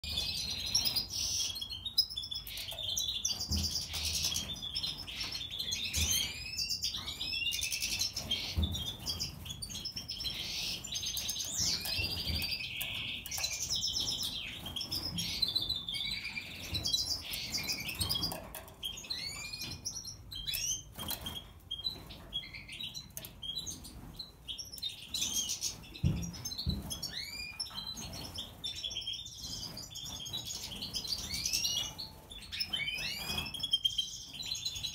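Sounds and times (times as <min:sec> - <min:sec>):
goldfinches twittering and trilling: 0:00.0 - 0:34.9.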